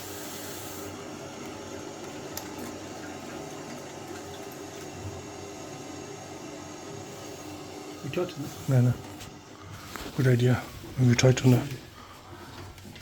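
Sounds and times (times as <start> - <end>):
water running into boiler: 0.0 - 13.0.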